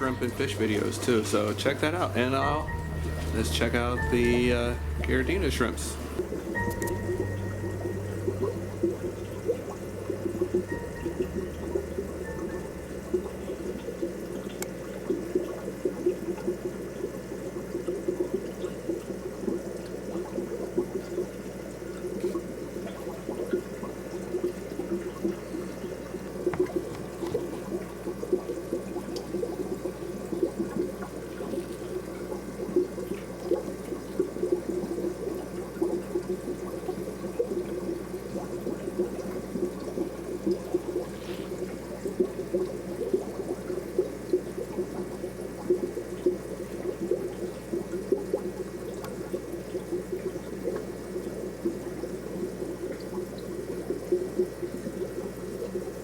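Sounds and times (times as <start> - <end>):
aquarium water trickling and bubbling: 0.0 - 56.0.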